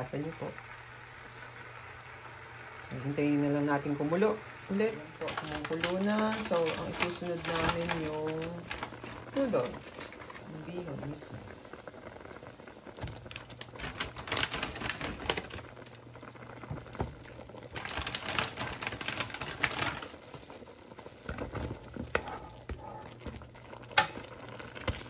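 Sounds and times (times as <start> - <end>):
noodles crackling in bubbling broth: 0.5 - 25.0.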